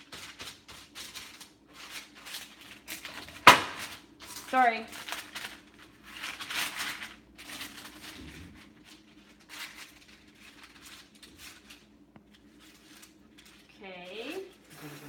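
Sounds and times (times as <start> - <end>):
parchment paper rustling: 0.0 - 14.7.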